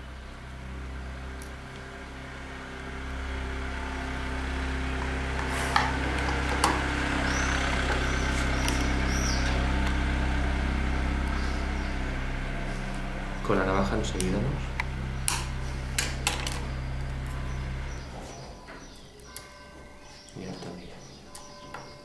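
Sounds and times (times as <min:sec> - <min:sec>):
engine running steadily: 0:00.0 - 0:18.9.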